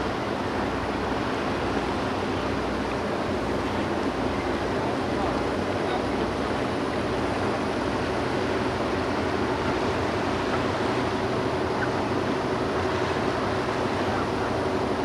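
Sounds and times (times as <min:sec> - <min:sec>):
boat diesel engine droning: 0:00.0 - 0:15.0.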